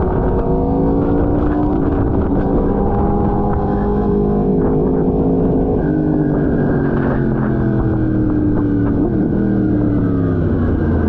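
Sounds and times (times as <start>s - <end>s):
motorcycle engine: 0.0s - 11.0s
wind on microphone: 0.0s - 11.0s.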